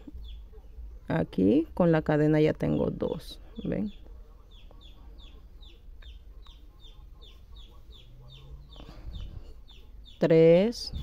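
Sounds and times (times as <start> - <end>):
bird chirping: 0.0 - 1.8, 2.6 - 11.0.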